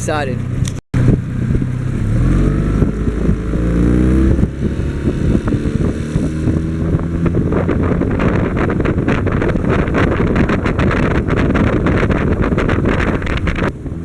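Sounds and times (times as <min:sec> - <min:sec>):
wind buffeting microphone: 0:00.0 - 0:14.0
vehicle engine accelerating: 0:00.4 - 0:14.0.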